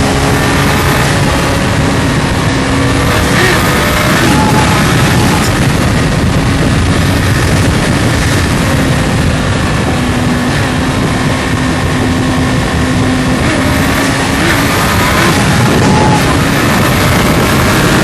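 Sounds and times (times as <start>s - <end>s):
vehicle engine at high speed: 0.0s - 18.0s.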